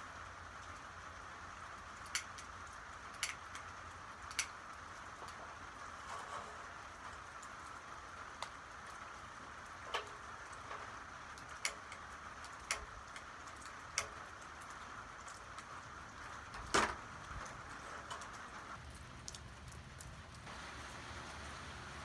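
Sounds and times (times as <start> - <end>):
light rain hiss: 0.0 - 22.0.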